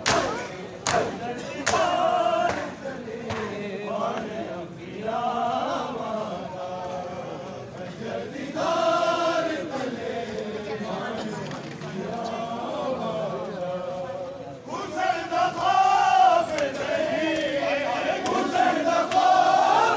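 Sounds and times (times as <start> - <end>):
men chanting a lament: 0.0 - 19.9.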